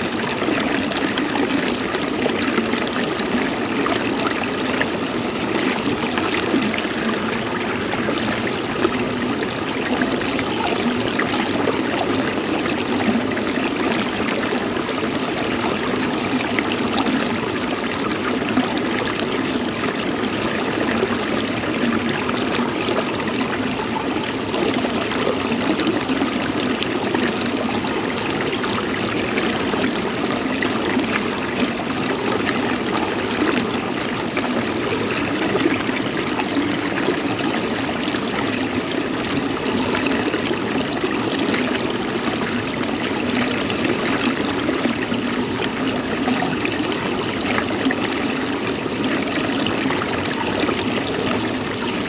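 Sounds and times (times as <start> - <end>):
running water: 0.0 - 52.0.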